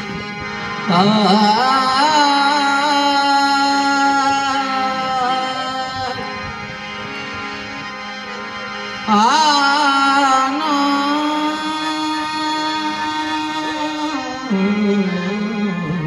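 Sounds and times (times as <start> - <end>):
harmonium playing chords: 0.0 - 16.0.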